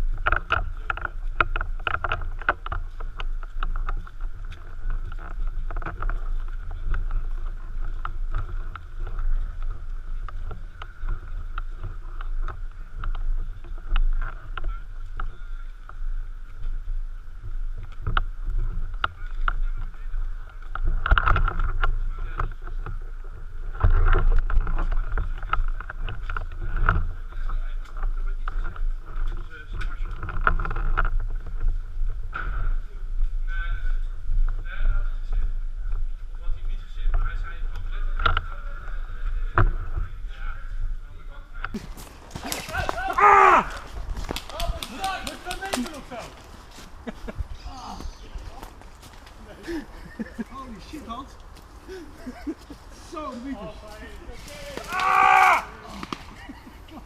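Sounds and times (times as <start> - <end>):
low wind and handling rumble: 0.0 - 57.0.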